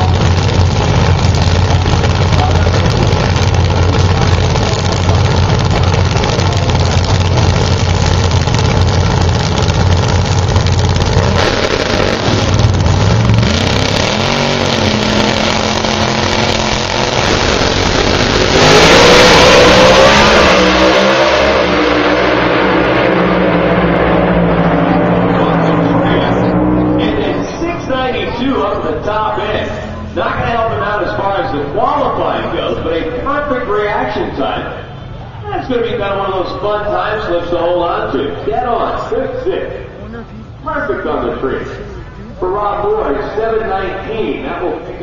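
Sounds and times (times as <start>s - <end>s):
drag racing engines revving: 0.0s - 45.0s.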